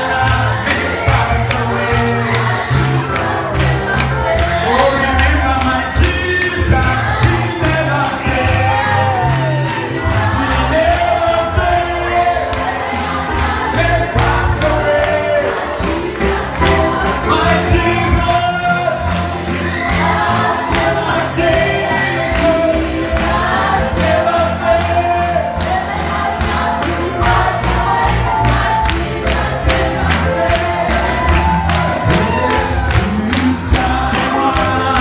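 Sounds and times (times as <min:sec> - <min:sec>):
band with steady beat: 0:00.0 - 0:35.0
choir singing gospel: 0:00.0 - 0:35.0
deep bass line: 0:00.0 - 0:35.0.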